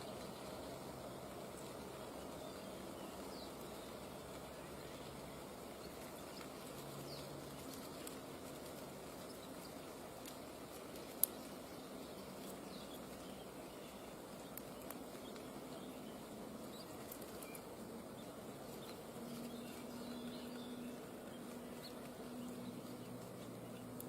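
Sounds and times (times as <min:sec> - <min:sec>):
outdoor background noise: 0:00.0 - 0:24.0
faint high chirps and clicks: 0:01.2 - 0:24.0.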